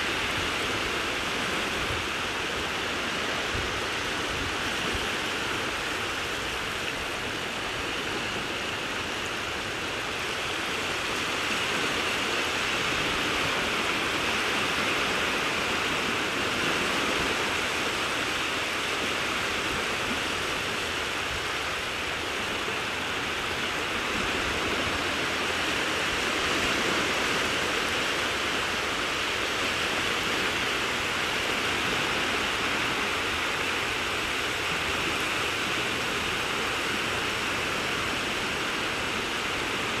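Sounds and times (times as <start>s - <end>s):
water washing over sand: 0.0s - 40.0s.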